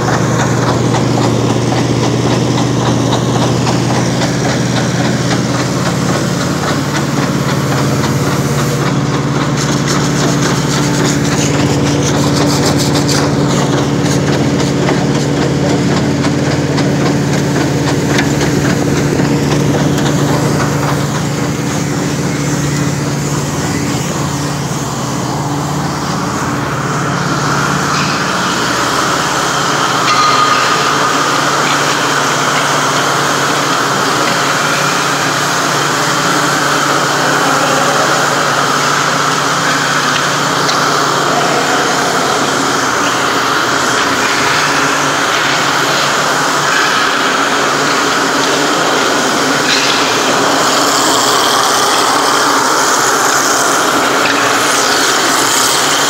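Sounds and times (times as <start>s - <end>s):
truck engine humming: 0.0s - 56.0s.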